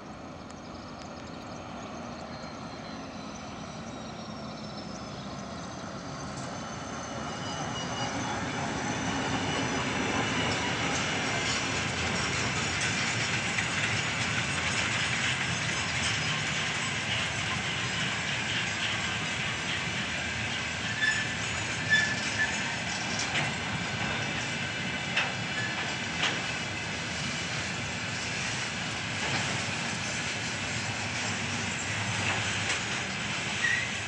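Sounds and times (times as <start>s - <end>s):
freight train rumbling and rattling: 0.0s - 34.0s.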